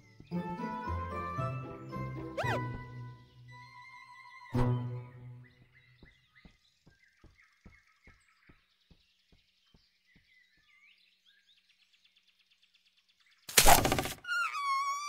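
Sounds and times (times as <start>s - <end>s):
faint bird chirps: 2.4s - 15.0s.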